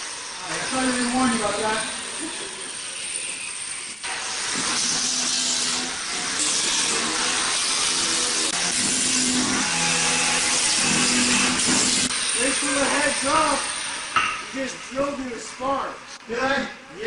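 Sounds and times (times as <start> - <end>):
electric grinder grinding plywood: 0.0 - 15.2.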